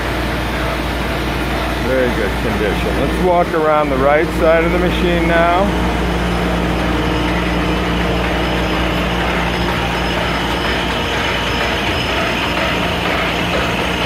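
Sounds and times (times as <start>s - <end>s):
industrial machinery droning: 0.0s - 14.0s.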